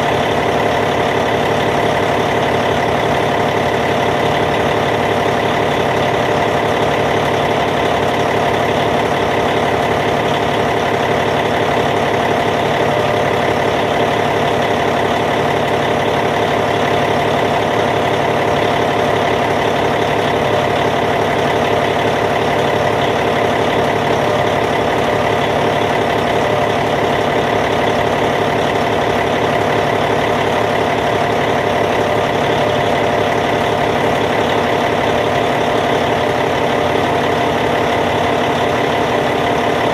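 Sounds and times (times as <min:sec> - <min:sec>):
bulldozer diesel engine idling: 0:00.0 - 0:39.9.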